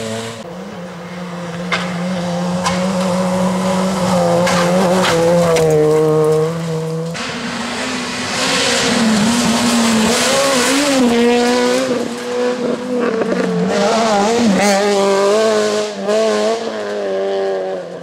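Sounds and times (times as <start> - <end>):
rally car engine revving: 0.0 - 18.0
tyre and road noise: 0.0 - 18.0.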